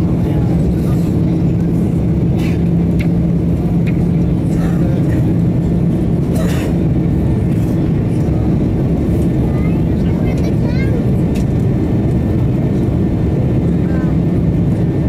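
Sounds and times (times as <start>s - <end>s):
jet engine roar in cabin: 0.0s - 15.0s.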